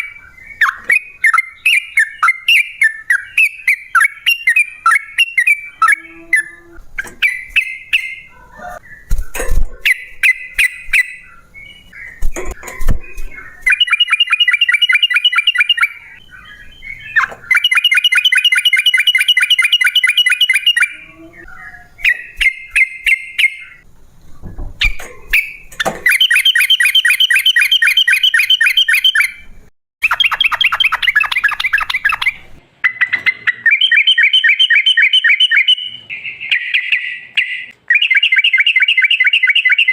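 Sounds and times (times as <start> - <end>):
bulbul singing trills and chirps: 0.0 - 9.1, 9.9 - 23.9, 24.8 - 39.9.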